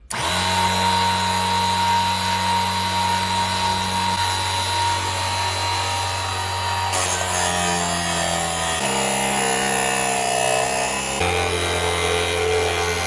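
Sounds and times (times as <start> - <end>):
table saw whining: 0.0 - 13.0.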